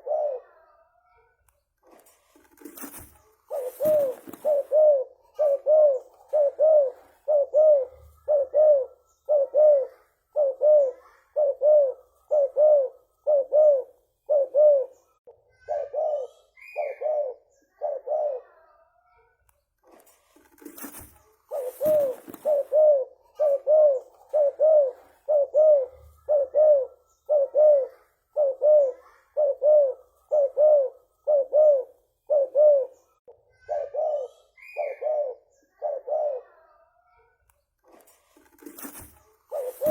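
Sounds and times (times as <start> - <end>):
dove cooing: 0.0 - 0.7, 2.5 - 18.7, 20.5 - 36.7, 38.5 - 39.9.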